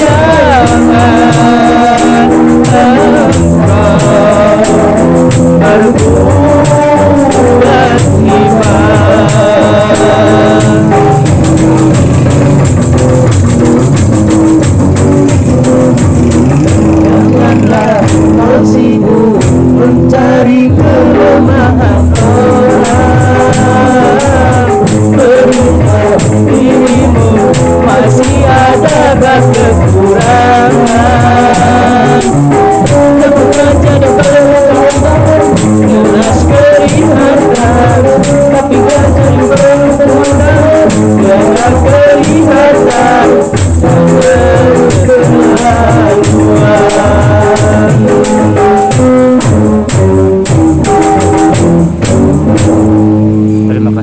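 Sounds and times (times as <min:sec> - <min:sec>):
person singing: 0:00.0 - 0:12.8, 0:15.4 - 0:50.2
rhythmic instrumental accompaniment: 0:00.0 - 0:54.0.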